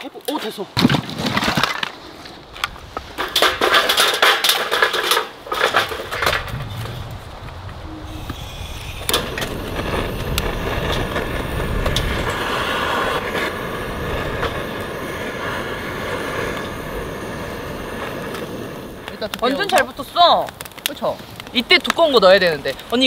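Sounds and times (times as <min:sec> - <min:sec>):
torch flame hissing: 0:02.4 - 0:23.0.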